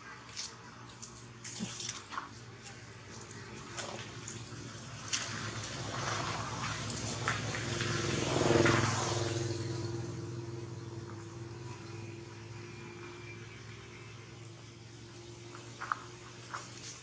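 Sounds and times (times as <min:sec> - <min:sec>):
vehicle engine passing by: 0:03.2 - 0:17.0.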